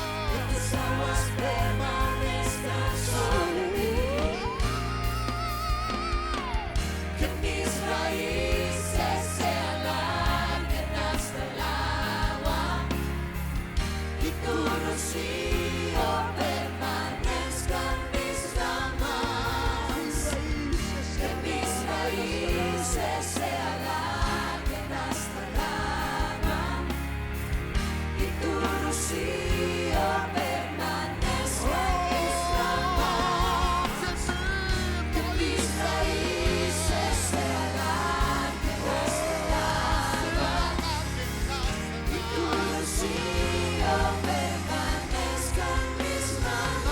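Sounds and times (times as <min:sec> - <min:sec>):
voices singing together: 0:00.0 - 0:46.9
worship band playing: 0:00.0 - 0:46.9.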